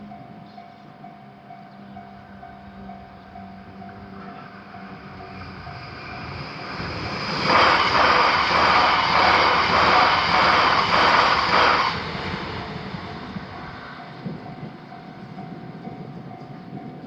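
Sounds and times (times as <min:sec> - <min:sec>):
train passing with pulsing rumble: 0:00.0 - 0:17.0.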